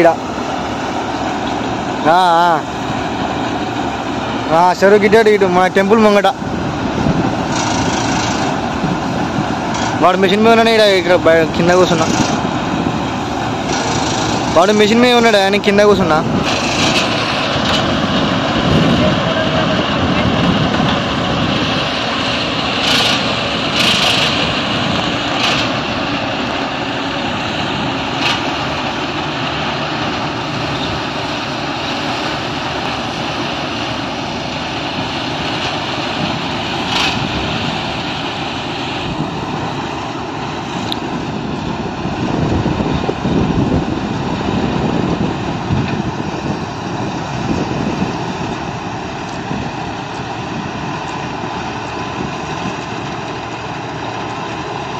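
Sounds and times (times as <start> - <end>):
combine harvester engine droning: 0.0 - 54.9.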